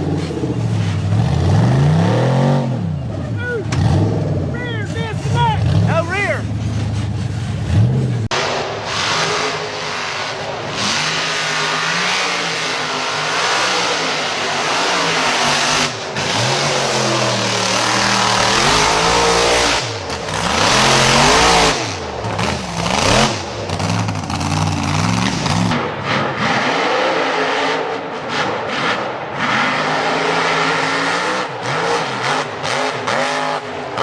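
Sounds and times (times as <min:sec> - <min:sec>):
engine revving: 0:00.0 - 0:34.0.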